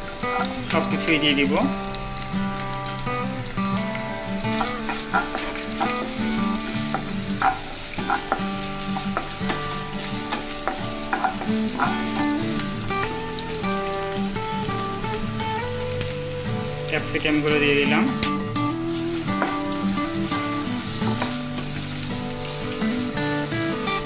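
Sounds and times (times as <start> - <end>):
background music: 0.0 - 24.0
vegetables sizzling in a pan: 0.0 - 24.0.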